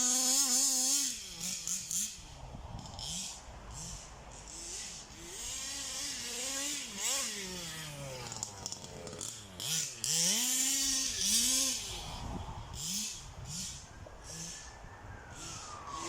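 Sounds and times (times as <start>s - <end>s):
model car engine revving: 0.0s - 14.7s.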